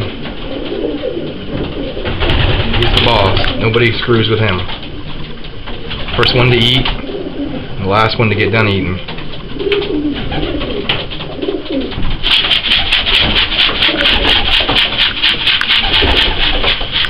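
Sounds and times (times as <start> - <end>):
pigeon wings flapping: 0.0 - 7.5, 9.0 - 17.0
pigeons cooing: 0.0 - 17.0.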